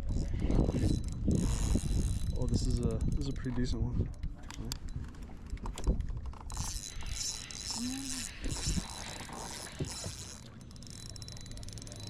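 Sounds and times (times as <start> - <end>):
fishing reel clicking: 0.0 - 3.5, 4.6 - 12.0.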